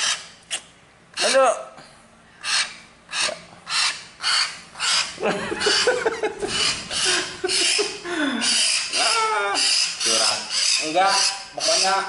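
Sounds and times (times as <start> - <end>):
myna bird squawking: 0.0 - 1.6, 2.4 - 12.0.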